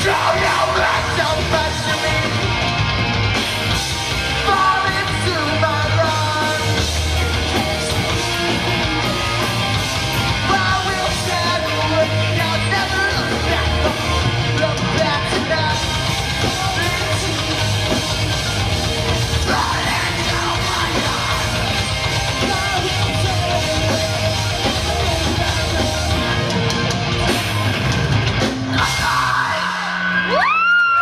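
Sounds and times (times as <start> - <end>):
vocals: 0.0 - 2.8, 4.1 - 8.8, 10.1 - 27.0, 28.4 - 31.0
live rock band playing: 0.0 - 31.0.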